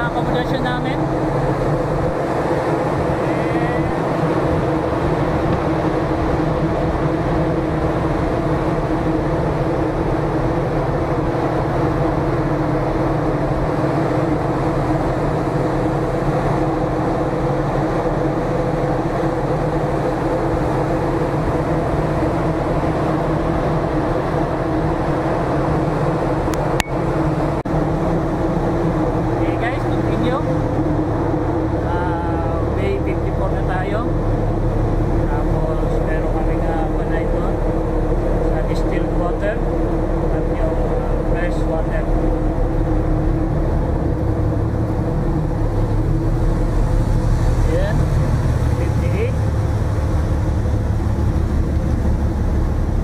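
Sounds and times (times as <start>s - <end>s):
constant machinery hum: 0.0s - 53.0s
ship machinery rumble: 0.0s - 53.0s.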